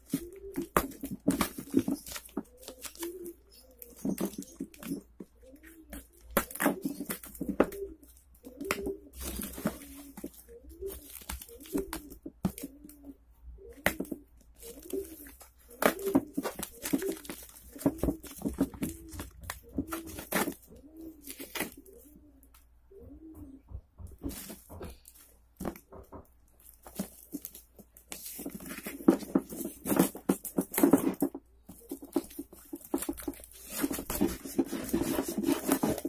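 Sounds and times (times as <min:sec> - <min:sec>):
doves cooing: 0:00.0 - 0:27.5, 0:28.1 - 0:36.0.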